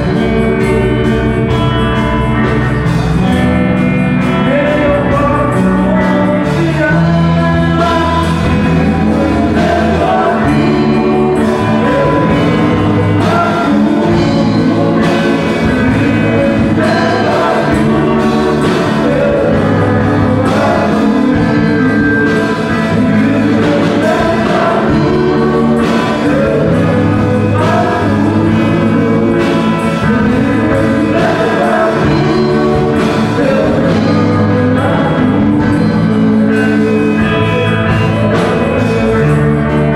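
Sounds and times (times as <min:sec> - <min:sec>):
band with steady beat: 0:00.0 - 0:39.9
person singing: 0:00.0 - 0:39.9.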